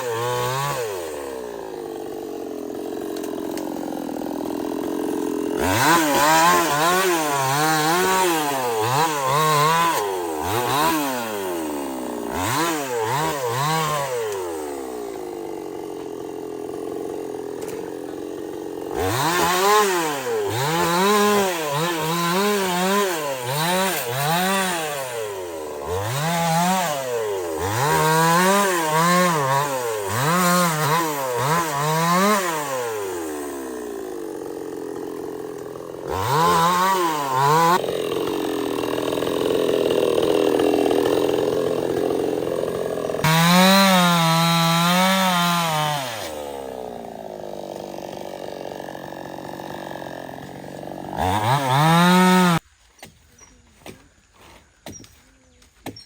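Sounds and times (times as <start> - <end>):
chainsaw revving and cutting: 0.0 - 52.7.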